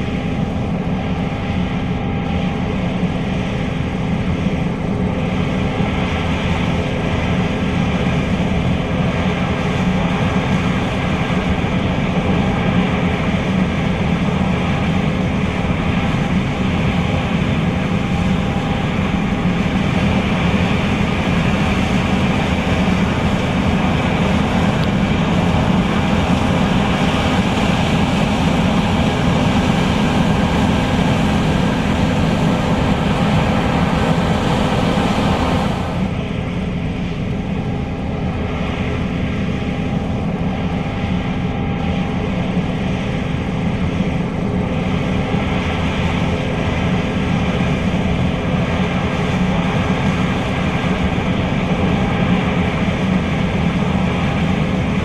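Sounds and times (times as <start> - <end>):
combine harvester drone: 0.0 - 55.0.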